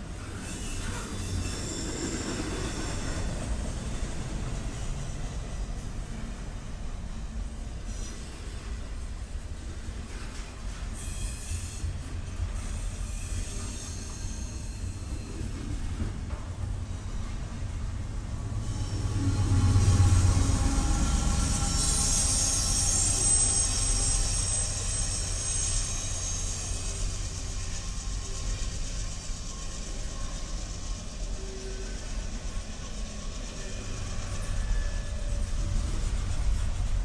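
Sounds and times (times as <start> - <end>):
freight train wheels rumbling on rail: 0.0 - 37.0
high wheel squeal: 0.1 - 5.4, 11.0 - 16.0, 16.9 - 36.6.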